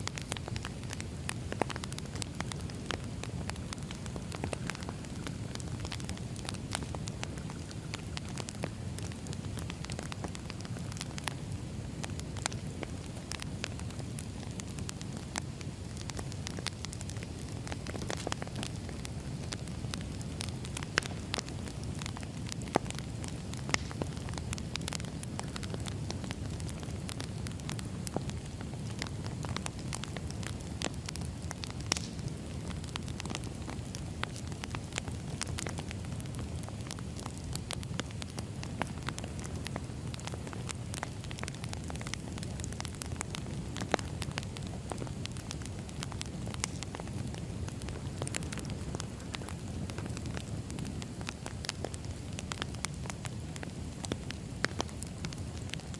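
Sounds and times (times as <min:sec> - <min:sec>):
fire rumbling: 0:00.0 - 0:55.9
firewood crackling and popping: 0:00.0 - 0:55.9.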